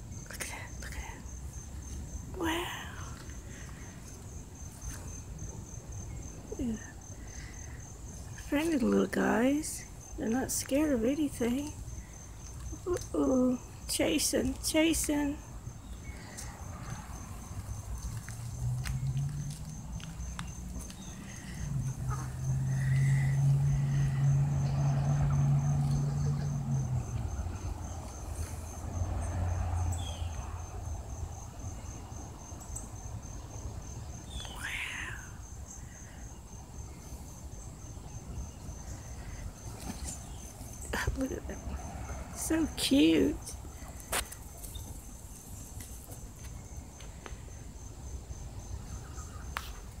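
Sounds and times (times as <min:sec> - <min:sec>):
cricket chirping: 0:00.0 - 0:50.0.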